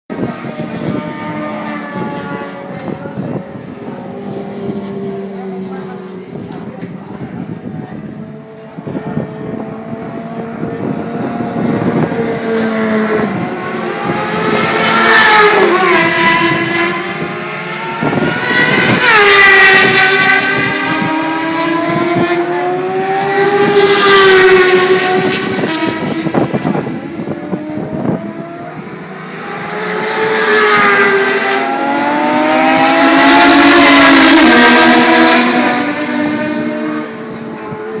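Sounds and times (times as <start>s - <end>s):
racing motorcycle engines revving: 0.1s - 38.0s.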